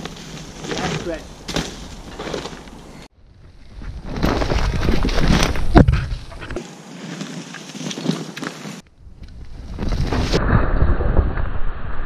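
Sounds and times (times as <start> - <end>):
bike tyres rolling over leaves: 0.0 - 11.7.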